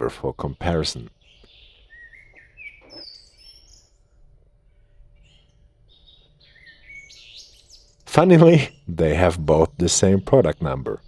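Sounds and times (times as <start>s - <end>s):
faint bird chirps and trills: 0.0s - 11.0s.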